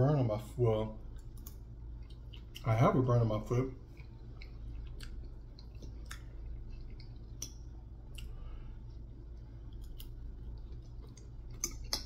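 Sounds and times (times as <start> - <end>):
low hum: 0.0 - 12.0
chewing mouth sounds: 1.1 - 2.7, 3.8 - 12.0.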